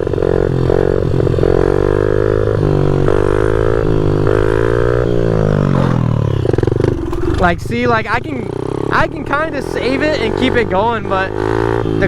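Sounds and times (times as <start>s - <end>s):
pit bike engine revving high: 0.0s - 12.0s.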